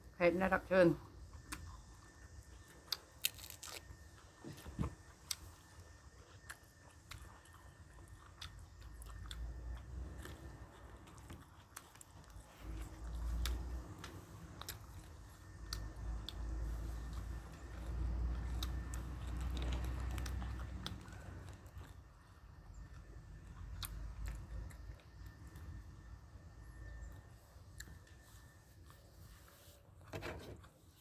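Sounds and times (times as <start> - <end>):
person chewing food: 1.0 - 26.1.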